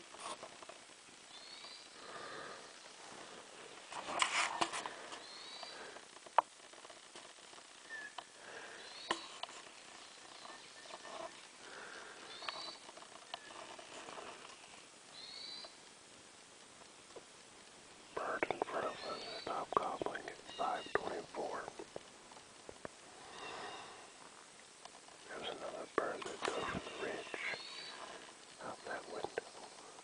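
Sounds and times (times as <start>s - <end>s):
rustling near microphone: 2.1s - 15.0s, 18.3s - 30.0s.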